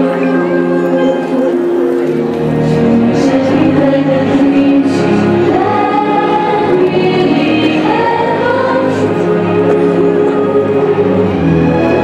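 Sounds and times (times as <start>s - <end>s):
choir singing held notes: 0.0s - 12.0s.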